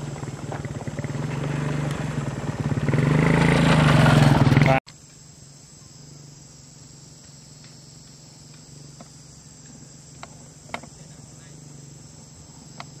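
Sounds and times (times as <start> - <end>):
distant motorcycle engine drone: 0.0 - 13.0
insects chirring: 0.0 - 13.0.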